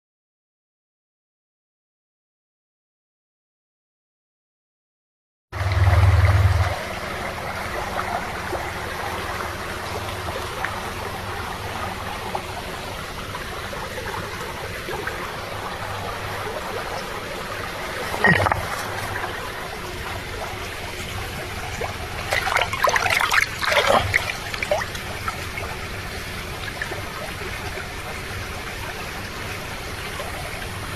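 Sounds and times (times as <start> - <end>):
river flowing over stones: 5.6 - 30.9.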